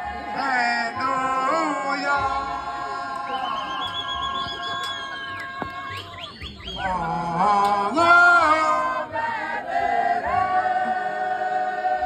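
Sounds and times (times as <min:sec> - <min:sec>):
group singing a chant: 0:00.0 - 0:06.0, 0:06.8 - 0:12.0.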